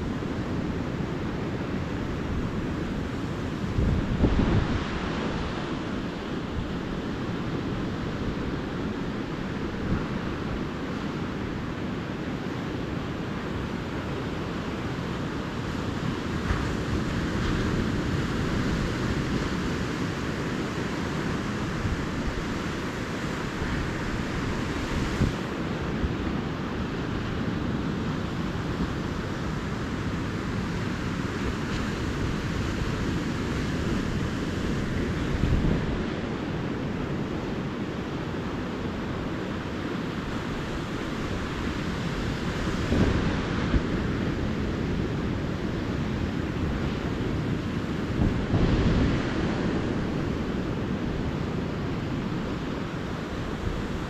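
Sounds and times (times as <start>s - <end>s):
waves washing onto beach: 0.0s - 54.0s.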